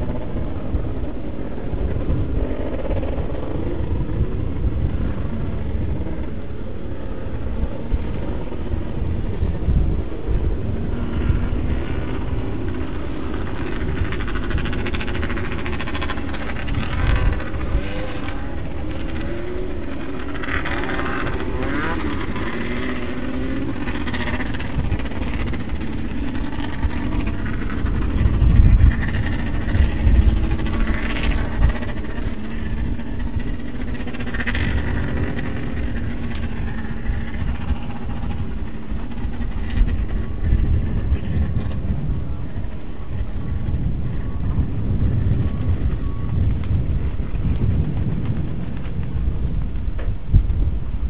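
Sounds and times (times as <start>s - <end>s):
buggy engines racing: 0.0s - 51.0s
loud low rumbles: 0.0s - 51.0s.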